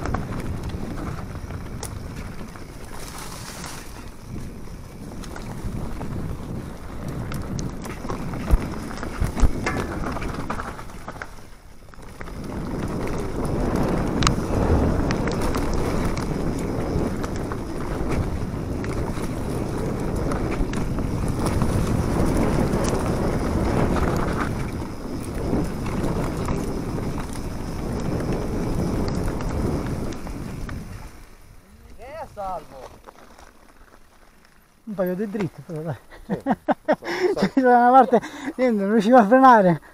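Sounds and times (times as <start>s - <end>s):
wind on microphone: 0.0s - 34.3s
bike tyres rolling over dirt: 0.0s - 39.9s.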